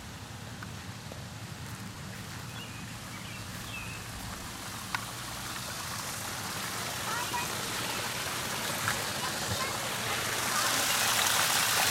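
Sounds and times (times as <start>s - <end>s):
steady outdoor hiss: 0.0s - 11.9s.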